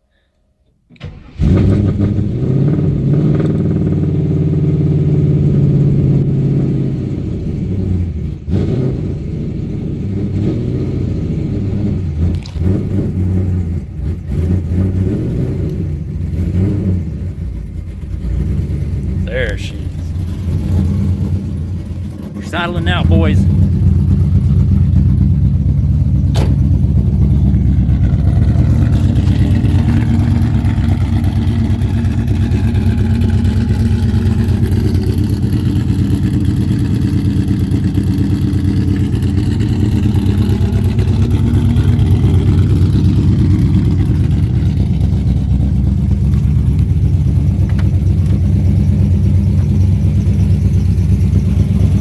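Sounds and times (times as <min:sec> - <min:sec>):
car engine idling: 0:01.1 - 0:52.0.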